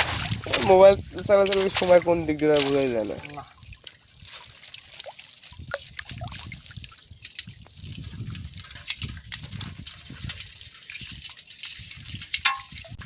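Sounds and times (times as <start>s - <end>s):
small clicks and splashes: 0.0s - 13.0s
water dripping and sloshing: 0.0s - 13.0s.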